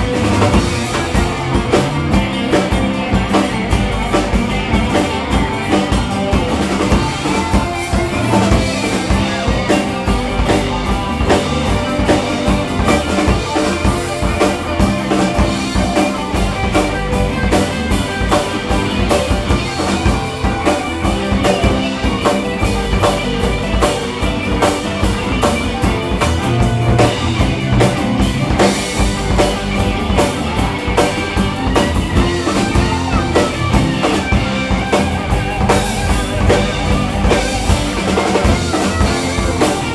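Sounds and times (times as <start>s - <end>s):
bass guitar: 0.0s - 39.9s
drum kit beat: 0.0s - 39.9s
electric guitars: 0.0s - 39.9s.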